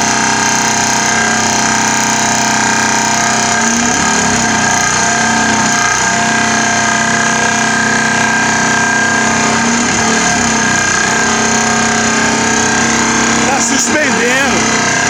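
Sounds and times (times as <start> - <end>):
vibratory pile driver din: 0.0 - 15.0.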